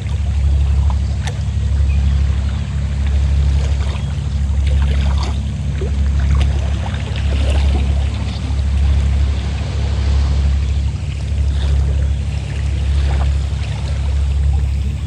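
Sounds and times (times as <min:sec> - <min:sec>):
boat engine humming: 0:00.0 - 0:15.0
water splashes: 0:00.0 - 0:15.0.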